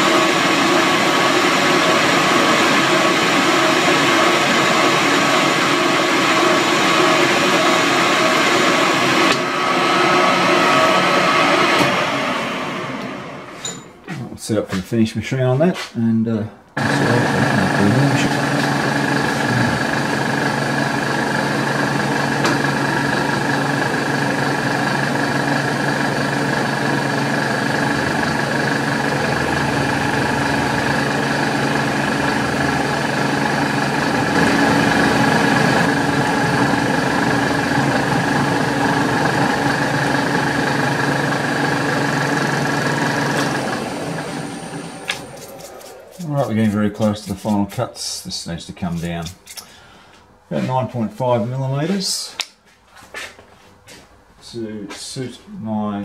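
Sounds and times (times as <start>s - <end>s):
end mill cutting steel: 0.0s - 14.0s, 16.8s - 48.2s
milling machine whining: 0.0s - 14.1s, 16.8s - 48.1s.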